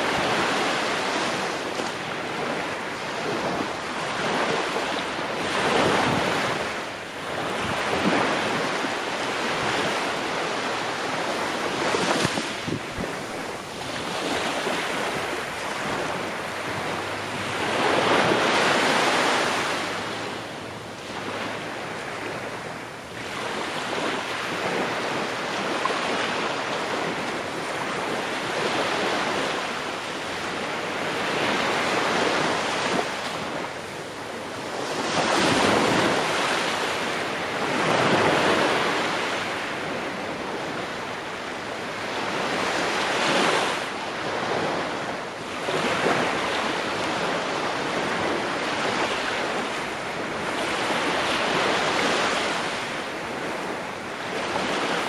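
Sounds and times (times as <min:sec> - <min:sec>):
ocean waves breaking on shore: 0:00.0 - 0:55.0
wind: 0:00.0 - 0:55.0.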